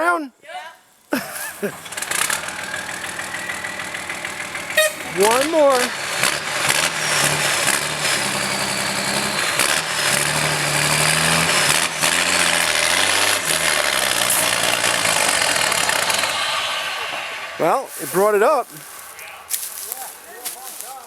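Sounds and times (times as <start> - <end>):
truck engine straining: 1.0 - 21.0.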